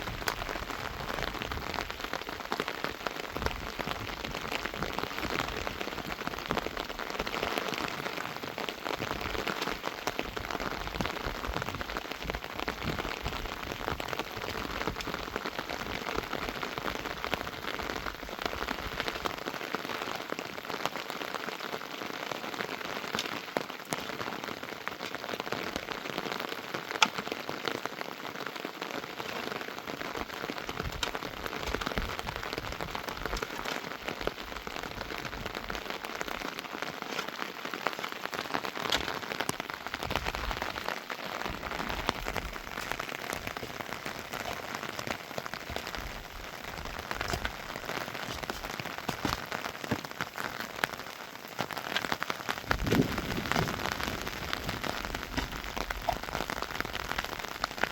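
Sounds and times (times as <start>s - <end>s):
heavy rain patter: 0.0s - 57.9s.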